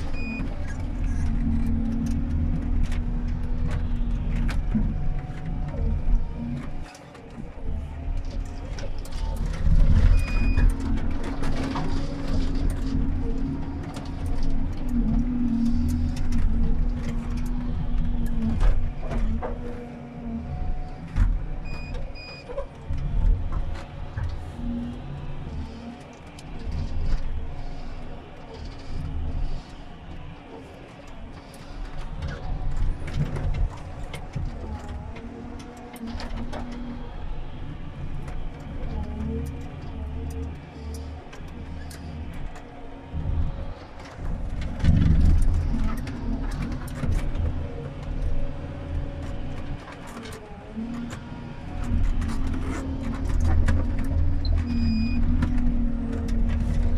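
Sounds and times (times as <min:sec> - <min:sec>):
diesel engine and hydraulics: 0:00.0 - 0:56.9.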